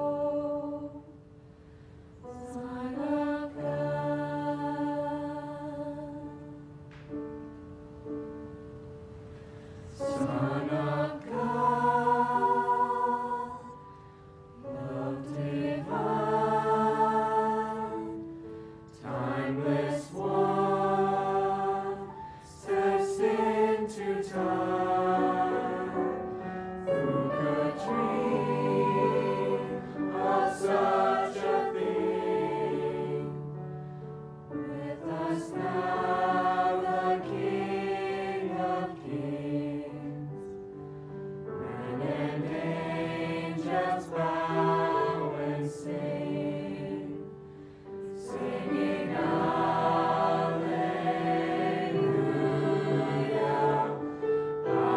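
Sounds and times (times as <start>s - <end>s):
choir singing in harmony: 0.0s - 1.4s, 2.2s - 6.8s, 9.5s - 54.9s.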